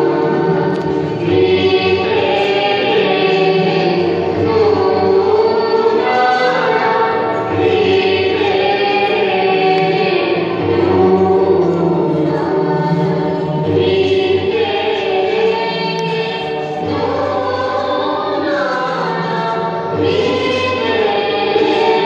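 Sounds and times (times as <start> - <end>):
choir singing long held notes: 0.0 - 22.0.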